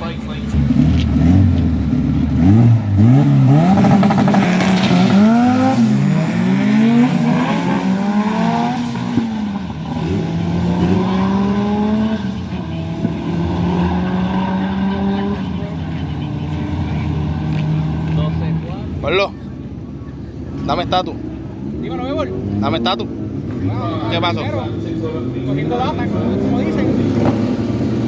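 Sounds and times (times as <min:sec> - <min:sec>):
car engine at full throttle: 0:00.0 - 0:28.0.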